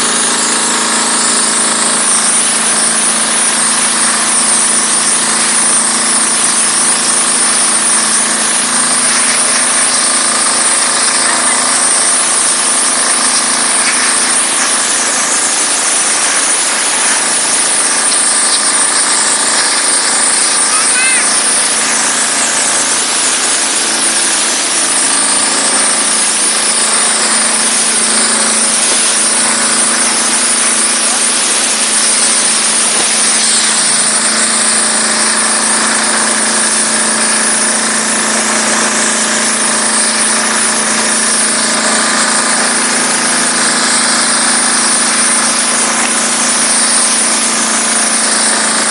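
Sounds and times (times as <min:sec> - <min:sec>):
loud hiss of high-pressure jet: 0:00.0 - 0:48.9
pressure washer engine humming: 0:00.0 - 0:48.9.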